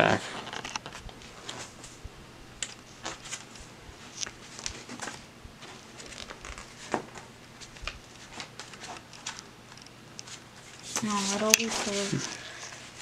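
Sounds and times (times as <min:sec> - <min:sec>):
paper pages rustling: 0:00.2 - 0:02.0, 0:02.6 - 0:13.0.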